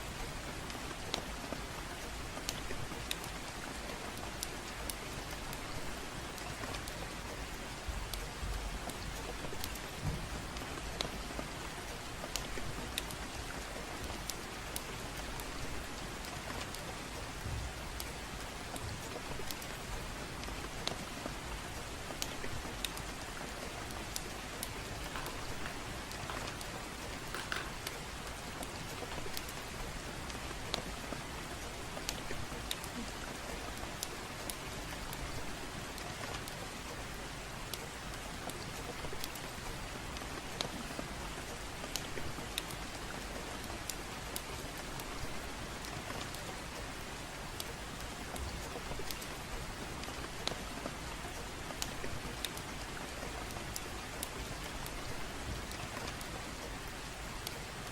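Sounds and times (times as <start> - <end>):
gentle rain: 0.0 - 57.9
fireplace crackling and popping: 0.1 - 57.9.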